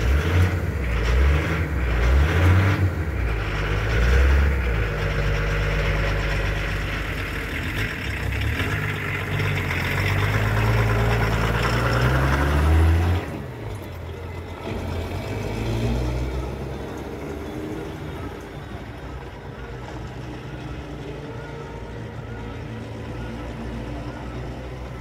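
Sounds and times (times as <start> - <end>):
off-road vehicle driving past: 0.0 - 25.0.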